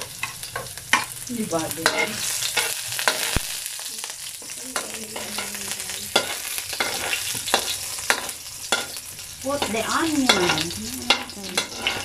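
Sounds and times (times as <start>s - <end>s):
metal spatula scraping and tapping: 0.0s - 1.2s, 1.8s - 3.4s, 4.4s - 9.0s, 9.6s - 12.0s
garlic sizzling in oil: 0.0s - 12.0s.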